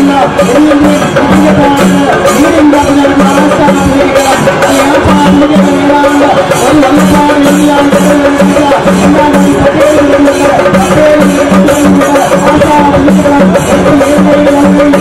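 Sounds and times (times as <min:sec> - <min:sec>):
drum beat: 0:00.0 - 0:15.0.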